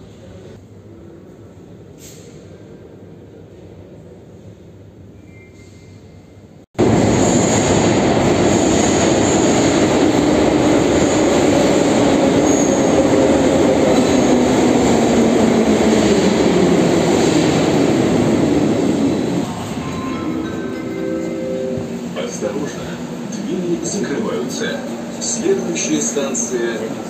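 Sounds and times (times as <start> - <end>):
metro train rumbling at speed: 0.0 - 27.0.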